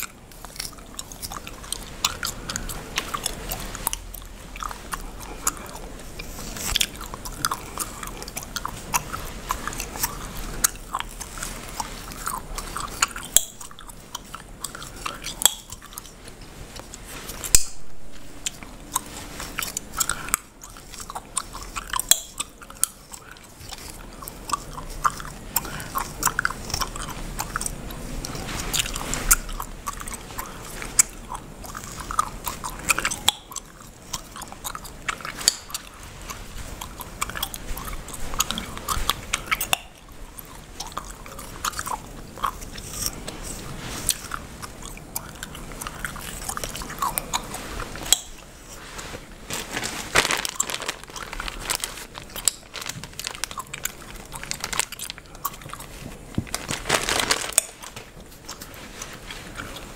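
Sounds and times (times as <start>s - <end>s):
bubblegum chewing and popping: 0.0s - 48.9s, 49.6s - 59.9s.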